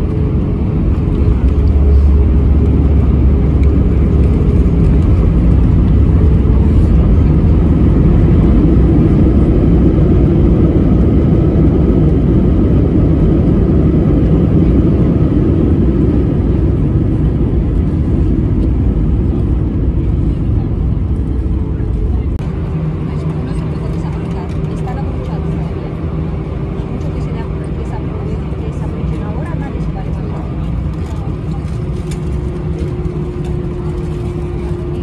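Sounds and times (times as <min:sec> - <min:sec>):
jet engine cabin rumble: 0:00.0 - 0:35.0.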